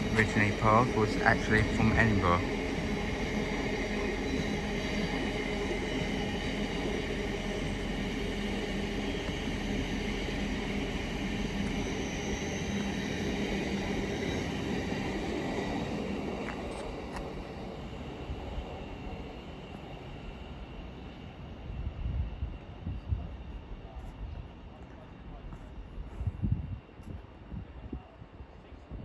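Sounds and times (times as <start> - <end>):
train passing slowly: 0.0 - 29.0.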